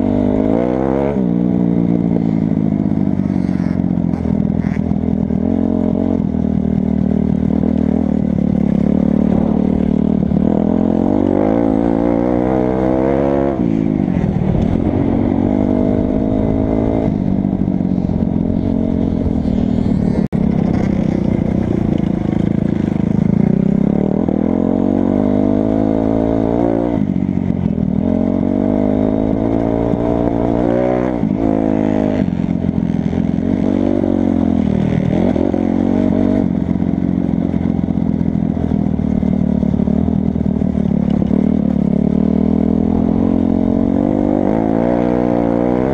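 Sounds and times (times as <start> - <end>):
dirt bike engine revving: 2.1 - 37.8, 39.3 - 45.9.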